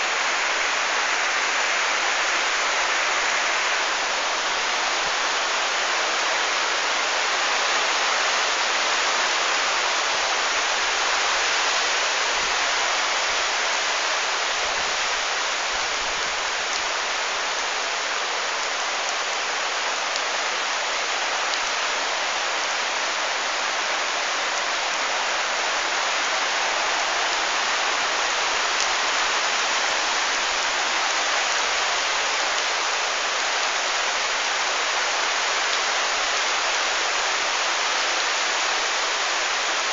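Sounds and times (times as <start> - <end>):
heavy rain on trees and leaves: 0.0 - 39.9.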